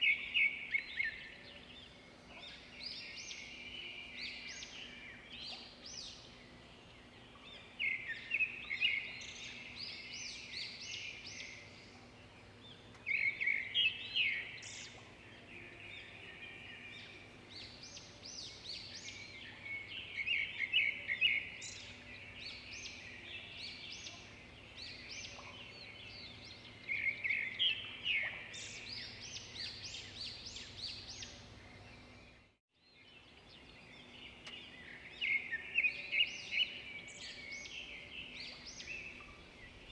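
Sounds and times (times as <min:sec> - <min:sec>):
birds chirping twitter calls: 0:00.0 - 0:39.9.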